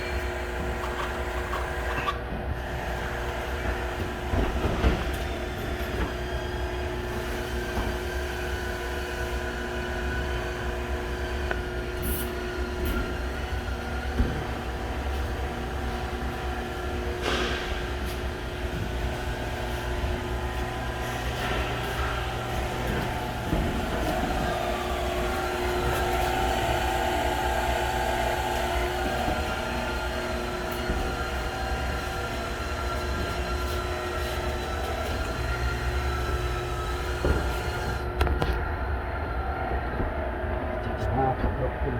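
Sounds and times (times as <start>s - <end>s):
steady machine hum: 0.0s - 41.9s.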